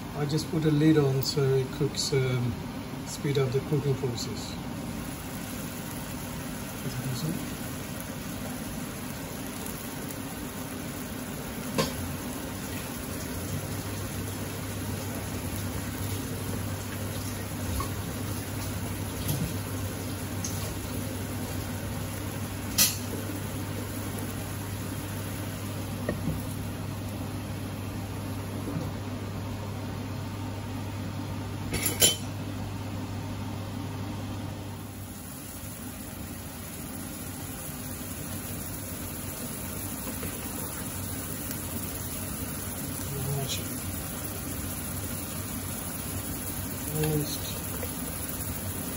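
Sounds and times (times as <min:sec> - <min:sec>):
low steady hum: 0:00.0 - 0:48.9
sauce simmering and sizzling: 0:04.7 - 0:30.2, 0:34.6 - 0:48.9.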